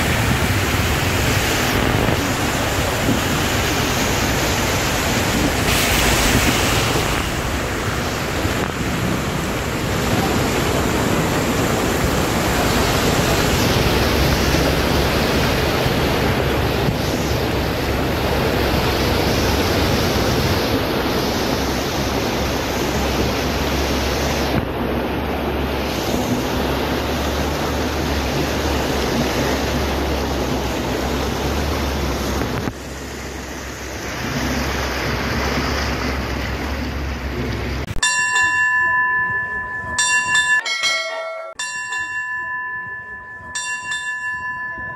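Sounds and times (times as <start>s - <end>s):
low wind rumble on microphone: 0.0s - 38.0s
rushing floodwater: 0.0s - 41.5s.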